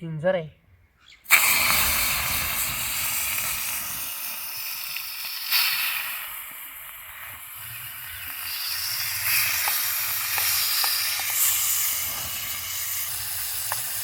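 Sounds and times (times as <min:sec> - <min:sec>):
meat sizzling in a hot pan: 0:01.3 - 0:14.0.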